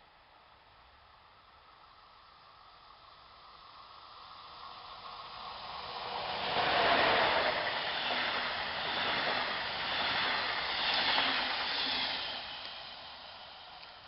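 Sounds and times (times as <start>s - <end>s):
train passing at speed: 0.3s - 14.0s.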